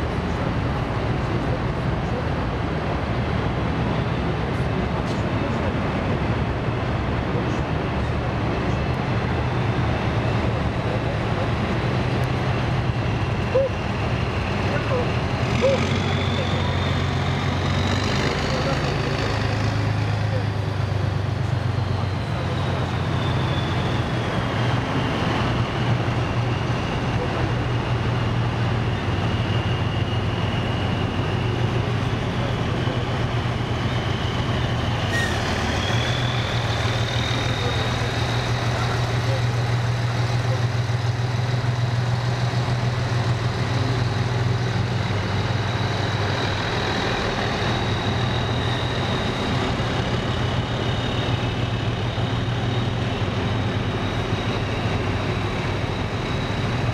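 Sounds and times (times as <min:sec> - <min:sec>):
heavy vehicles diesel engines: 0:00.0 - 0:56.9.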